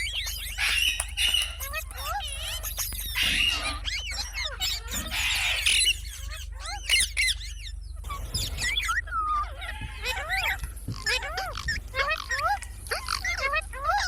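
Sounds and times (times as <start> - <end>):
parrot chirping and whistling: 0.0 - 14.0
parrot squawks: 0.0 - 14.0.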